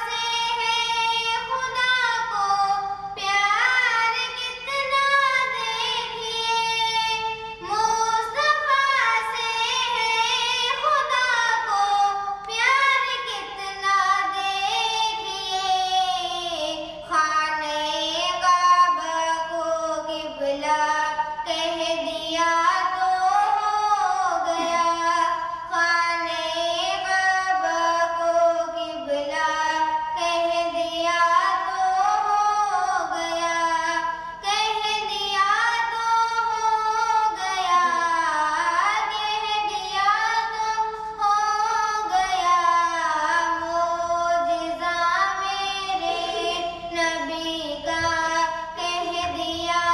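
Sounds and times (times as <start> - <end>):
girl singing into a microphone: 0.0 - 49.9.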